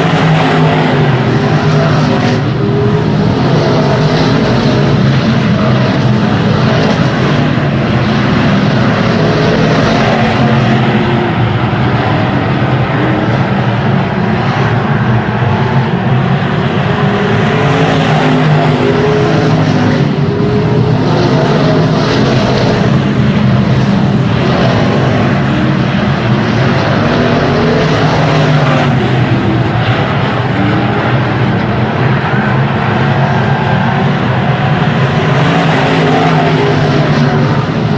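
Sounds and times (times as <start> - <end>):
racing car engines revving: 0.0 - 37.9.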